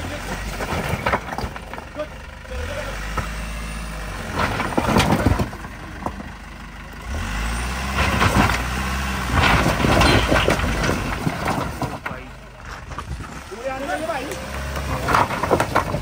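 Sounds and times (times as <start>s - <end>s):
engine labouring under load: 0.0s - 16.0s
stones crunching under tyres: 0.0s - 16.0s.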